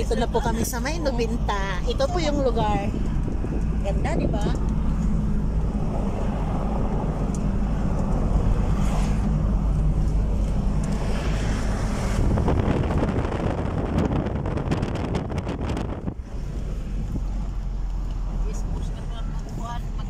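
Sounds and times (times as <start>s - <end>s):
car engine and road noise: 0.0s - 20.0s
wind buffeting microphone: 0.0s - 20.0s.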